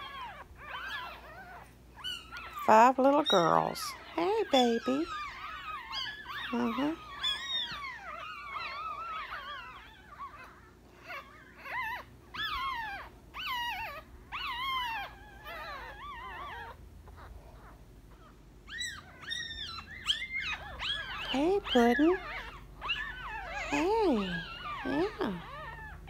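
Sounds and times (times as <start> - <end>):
puppies squealing: 0.0 - 26.0.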